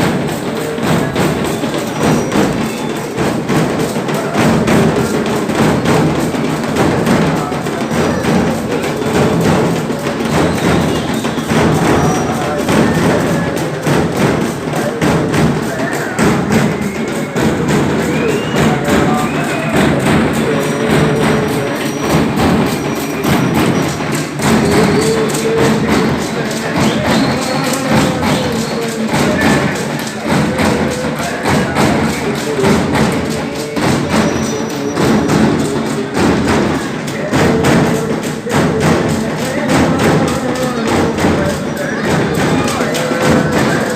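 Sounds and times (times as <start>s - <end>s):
procession drums beating: 0.0s - 43.9s
voices: 0.0s - 43.9s.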